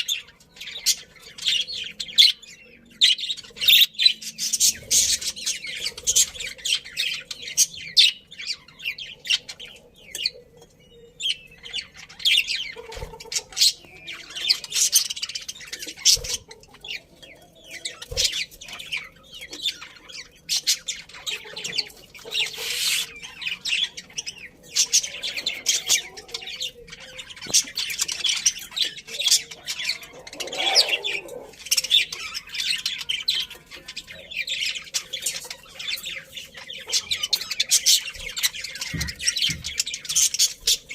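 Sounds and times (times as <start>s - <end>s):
budgerigars chirping and chattering: 0.0s - 40.9s.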